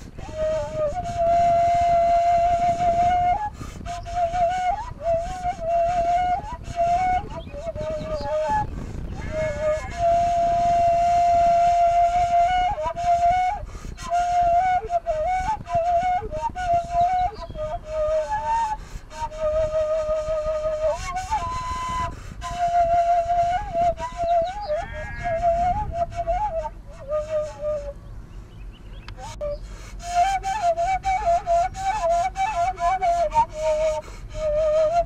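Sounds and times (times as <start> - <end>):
solo flute melody: 0.0 - 28.1, 28.8 - 35.0
low steady rumble: 0.0 - 35.0.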